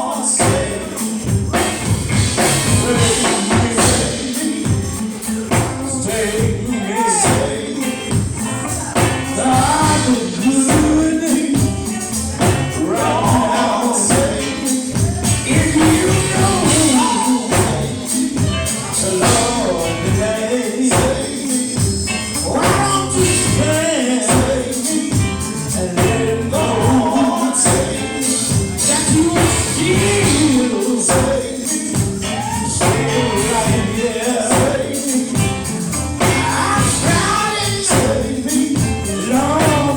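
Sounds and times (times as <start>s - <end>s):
gospel singing over a band: 0.0s - 39.9s
percussion beat: 0.0s - 39.9s.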